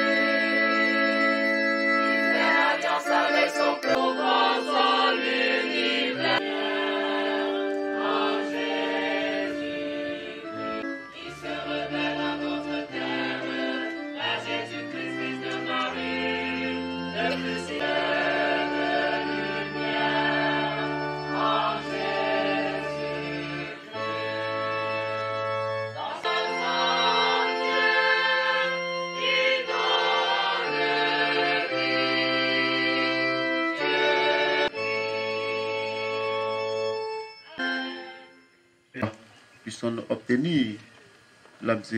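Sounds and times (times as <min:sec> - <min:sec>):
choir singing a hymn: 0:00.0 - 0:36.8
organ-like keyboard chords: 0:00.0 - 0:41.9.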